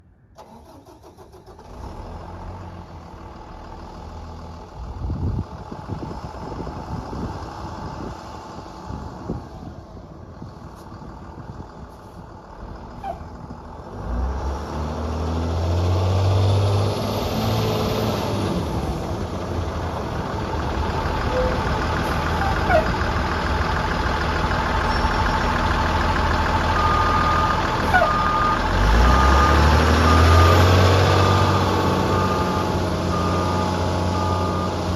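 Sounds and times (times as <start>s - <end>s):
truck engine running: 0.4s - 14.4s, 17.7s - 34.9s.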